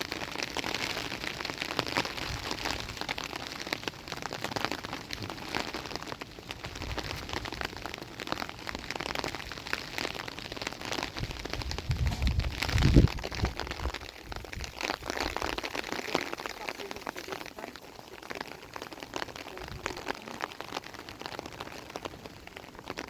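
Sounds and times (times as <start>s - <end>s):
rain pattering: 0.0s - 23.0s.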